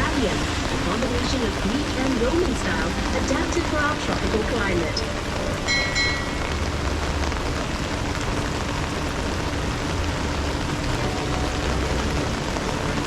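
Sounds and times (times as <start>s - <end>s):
heavy rain on boat and water: 0.0s - 13.0s
steady low rumble: 0.0s - 13.0s.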